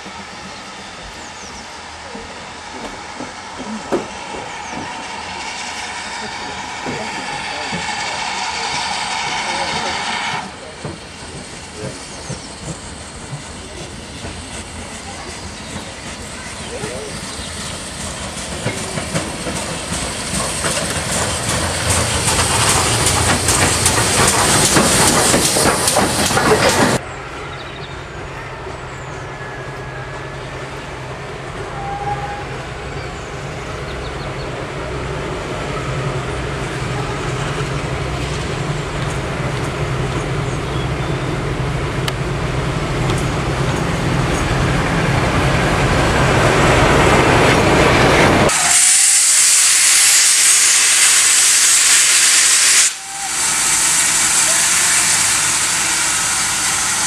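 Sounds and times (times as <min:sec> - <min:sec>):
diesel locomotive engine drone: 0:00.0 - 0:57.0
steam locomotive passing: 0:00.0 - 0:57.0.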